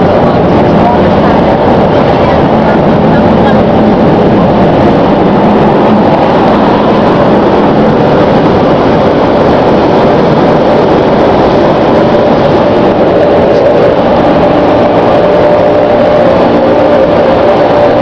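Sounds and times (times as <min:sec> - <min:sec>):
car wash rushing noise: 0:00.0 - 0:18.0.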